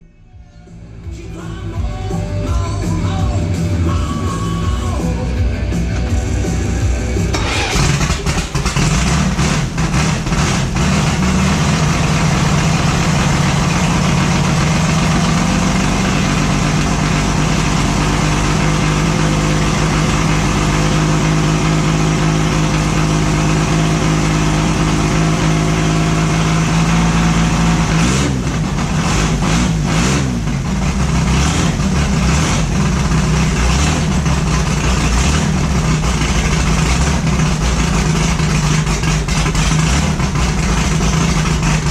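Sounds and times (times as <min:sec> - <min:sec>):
engine running steadily: 0:00.7 - 0:41.9.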